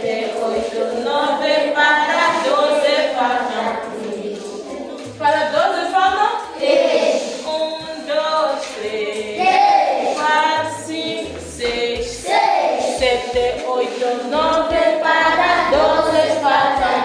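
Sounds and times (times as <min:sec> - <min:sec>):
children singing together: 0:00.0 - 0:05.2, 0:06.3 - 0:17.0.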